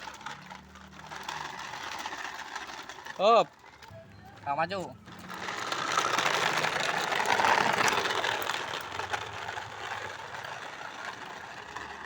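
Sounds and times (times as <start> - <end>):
plastic toy truck rattling: 0.0 - 12.0.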